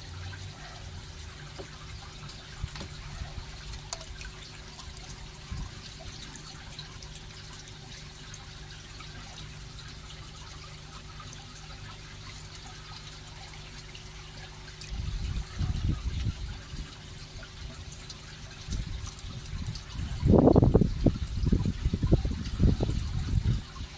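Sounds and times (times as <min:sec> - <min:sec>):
water trickling: 0:00.0 - 0:23.9.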